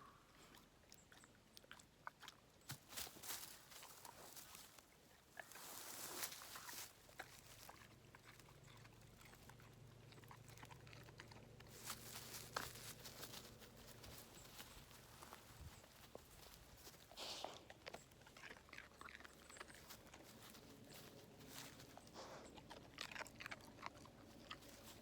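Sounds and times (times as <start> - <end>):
dog crunching carrot: 0.4 - 4.6, 5.2 - 25.0.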